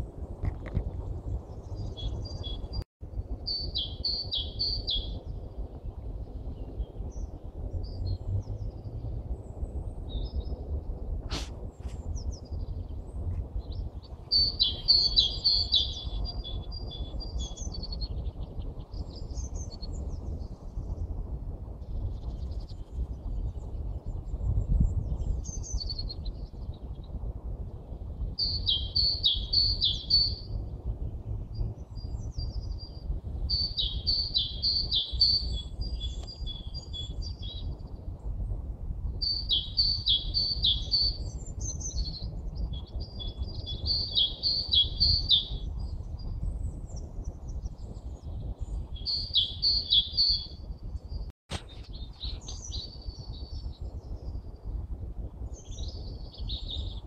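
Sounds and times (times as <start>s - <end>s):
steady low rumble: 0.0s - 57.0s
songbird singing: 1.2s - 54.8s, 55.5s - 57.0s.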